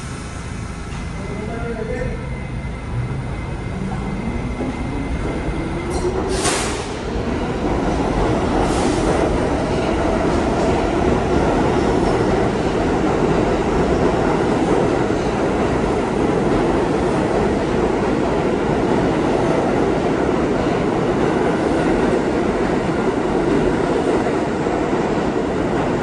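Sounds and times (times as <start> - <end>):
subway train passing: 0.0 - 26.0
wheel and track rumble: 0.8 - 26.0.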